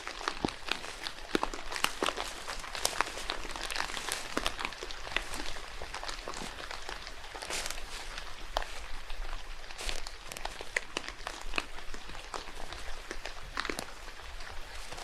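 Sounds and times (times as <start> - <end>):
footsteps crunching on wet ground: 0.0 - 15.0
rain pattering: 0.0 - 15.0.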